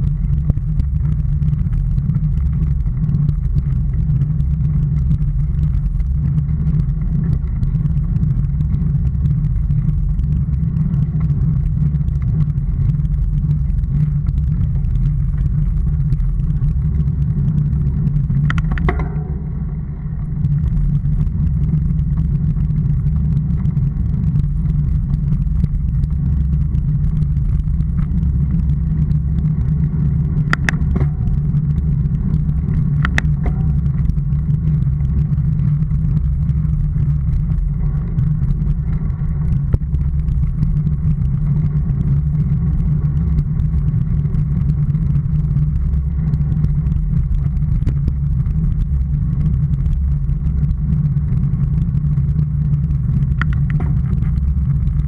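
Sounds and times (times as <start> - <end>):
vehicle rumbling on rough road: 0.0 - 55.0.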